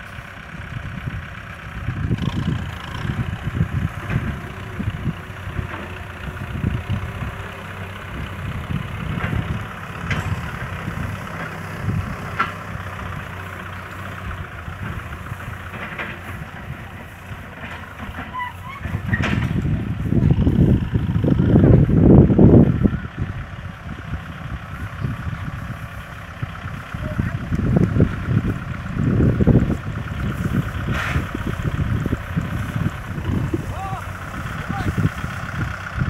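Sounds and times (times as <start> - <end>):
tractor diesel engine rumbling: 0.0 - 36.0.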